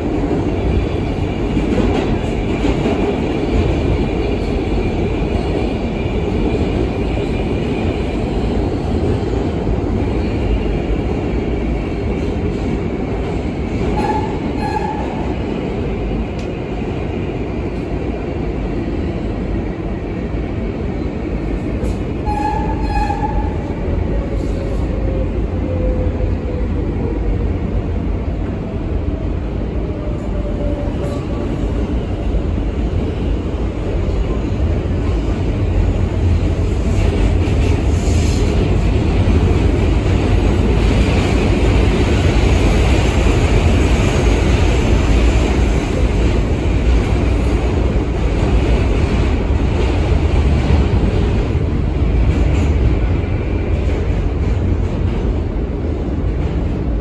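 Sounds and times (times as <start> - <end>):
subway train wheels rumbling on rail: 0.0 - 57.0.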